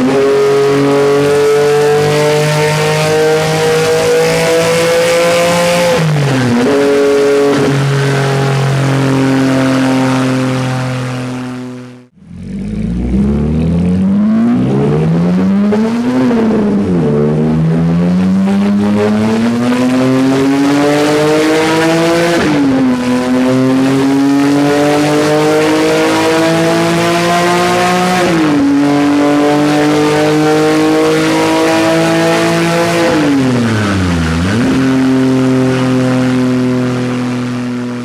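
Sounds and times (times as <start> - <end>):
sports car engine revving: 0.0 - 38.0.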